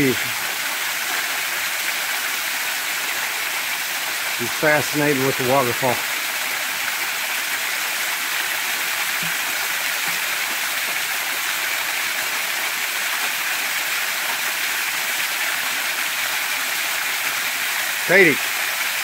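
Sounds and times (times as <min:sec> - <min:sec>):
waterfall splashing: 0:00.0 - 0:19.0.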